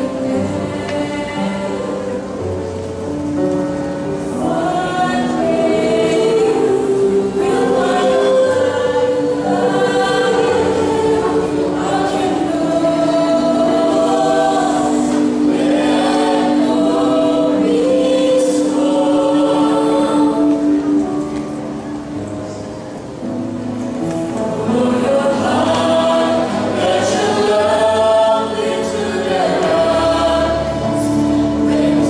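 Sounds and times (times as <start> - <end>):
mixed choir singing in harmony: 0.0 - 32.0.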